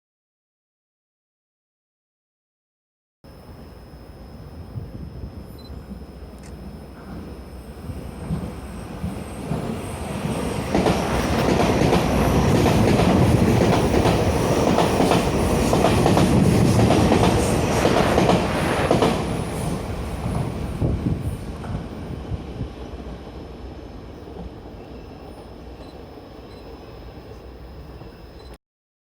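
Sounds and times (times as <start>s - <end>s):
electric train passing: 3.3s - 28.5s.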